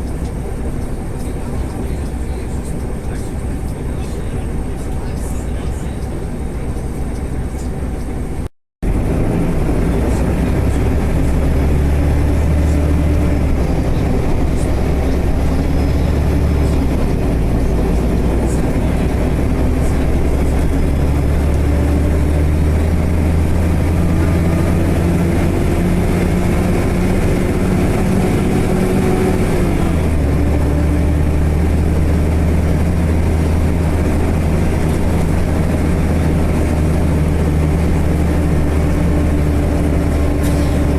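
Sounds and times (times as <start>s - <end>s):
heavy vehicle engine droning: 0.0s - 40.9s.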